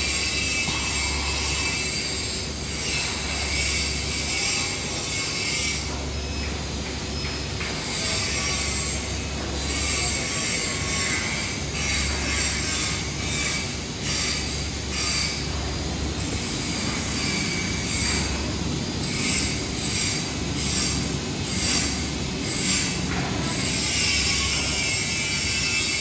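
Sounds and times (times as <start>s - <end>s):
low machinery hum: 0.0s - 26.0s.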